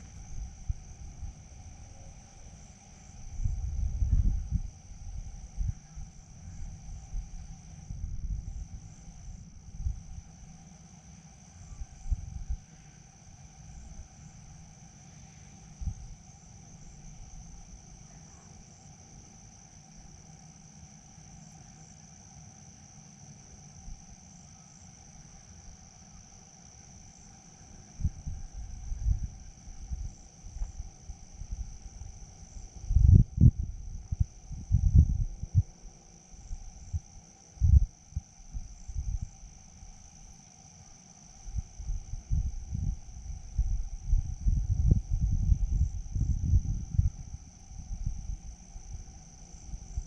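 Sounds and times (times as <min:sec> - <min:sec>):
high-pitched insect chorus: 0:00.0 - 0:50.0
low steady drone: 0:00.0 - 0:50.0.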